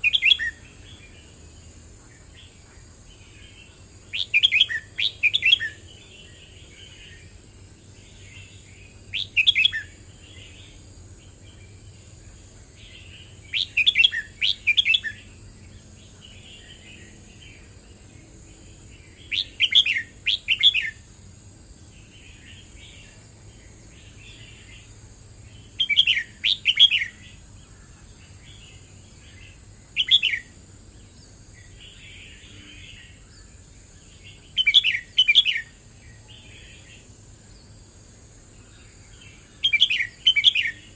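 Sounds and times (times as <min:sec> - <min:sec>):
bird warbling song: 0:00.0 - 0:21.1, 0:21.9 - 0:37.9, 0:38.5 - 0:40.9.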